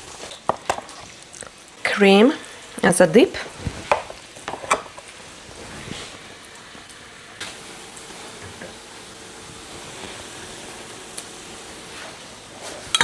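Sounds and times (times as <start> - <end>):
bread sizzling in frying pan: 0.0 - 13.0.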